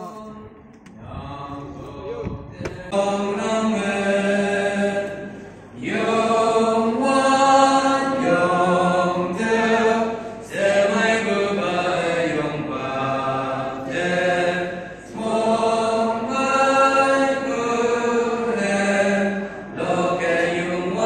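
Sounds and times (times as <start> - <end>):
congregation singing a hymn: 0.0 - 21.0.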